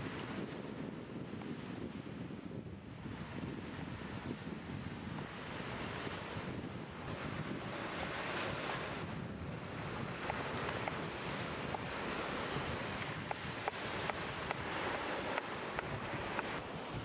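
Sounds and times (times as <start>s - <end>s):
wind on microphone: 0.0s - 17.0s
surf: 2.9s - 17.0s.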